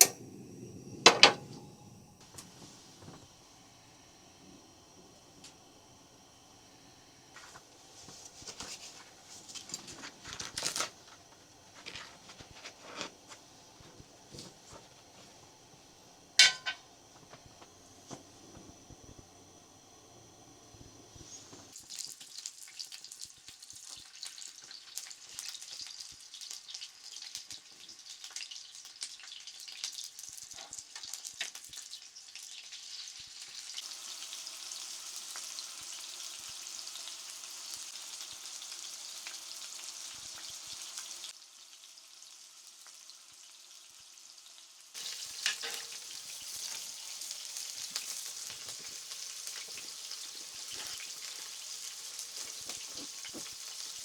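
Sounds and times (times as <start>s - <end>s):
food frying in a pan: 2.2s - 54.0s.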